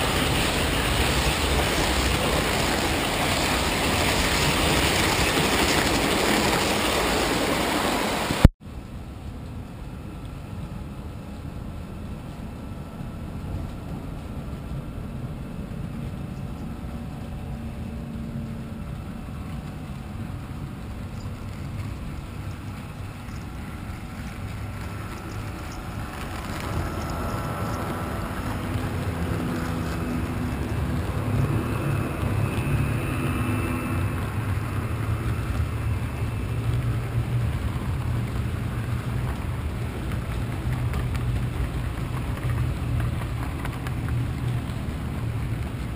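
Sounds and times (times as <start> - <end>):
model train wheels rumbling: 0.0 - 9.0, 13.0 - 45.9
locomotive drive whine: 0.0 - 45.9.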